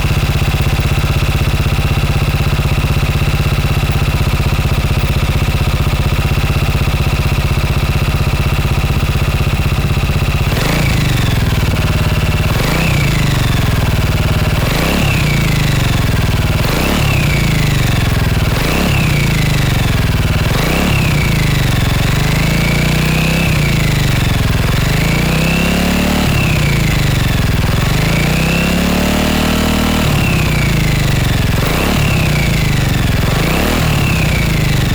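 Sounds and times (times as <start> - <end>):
scooter engine idling and revving: 0.0 - 34.9.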